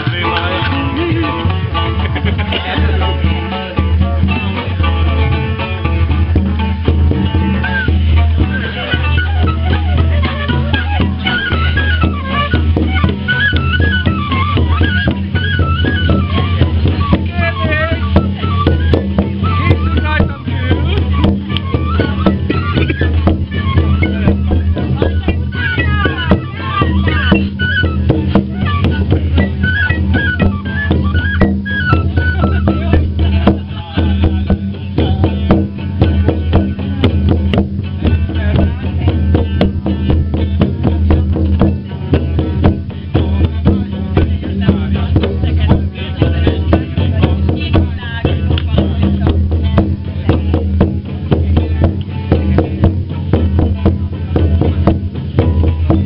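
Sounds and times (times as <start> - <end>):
live folk music: 0.0 - 56.0.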